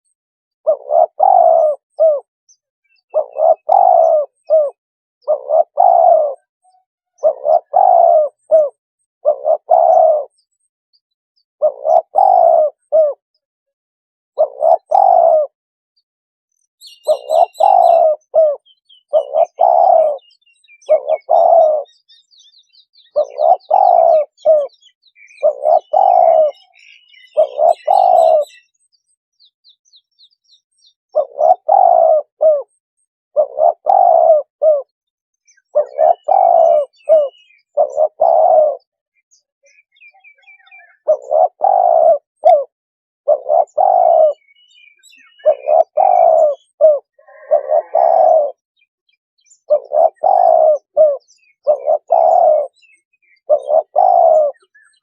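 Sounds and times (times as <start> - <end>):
dove cooing: 0.0 - 2.3, 2.9 - 10.5, 11.6 - 13.2, 14.4 - 15.6, 16.8 - 22.4, 23.0 - 28.7, 31.1 - 34.9, 35.5 - 48.9, 49.5 - 55.0
small birds chirping: 0.0 - 13.5, 14.4 - 55.0.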